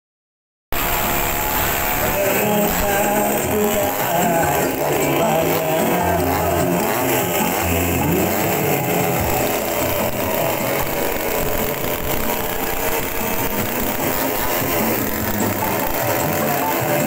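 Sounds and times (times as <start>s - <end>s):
chainsaw engine running: 0.8s - 17.0s
music: 0.8s - 17.0s.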